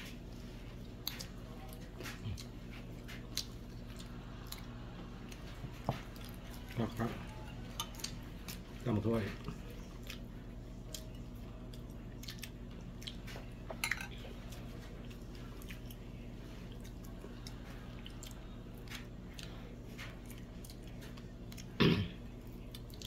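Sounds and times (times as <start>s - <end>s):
person chewing: 0.0s - 23.0s
steady low hum: 0.0s - 23.0s.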